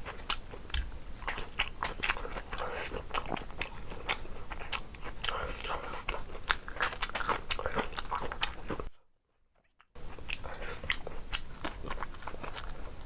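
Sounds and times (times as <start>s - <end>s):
person chewing food: 0.0s - 9.0s, 9.6s - 13.0s.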